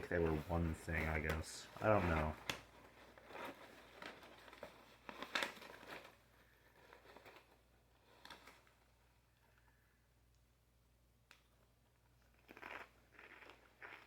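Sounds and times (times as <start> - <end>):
snack bag crinkling: 0.0 - 9.6, 11.3 - 14.0.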